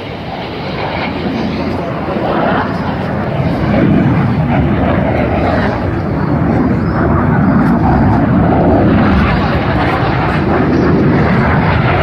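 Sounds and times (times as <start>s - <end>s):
jet roar flying overhead: 0.0s - 12.0s.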